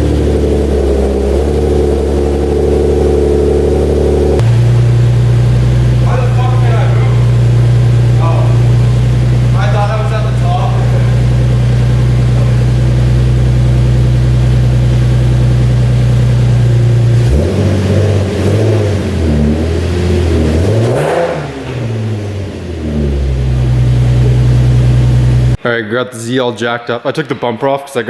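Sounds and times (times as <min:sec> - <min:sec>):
car engine idling and revving: 0:00.0 - 0:25.6.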